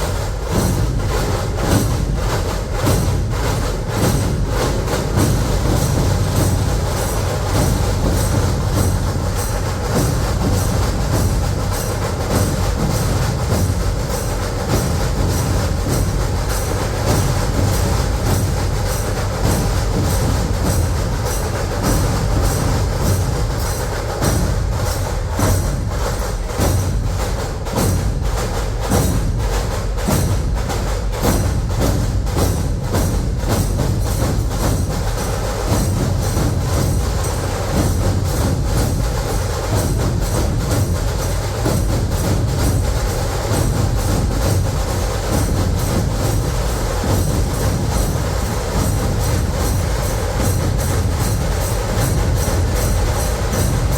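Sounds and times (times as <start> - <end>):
deep barrel drums: 0.0 - 53.9
rapid drum strokes: 0.0 - 53.9.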